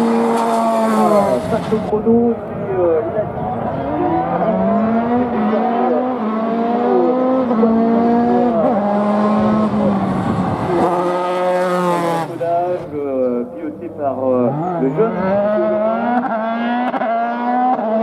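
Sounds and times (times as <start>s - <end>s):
race car engine at full throttle: 0.0s - 18.0s.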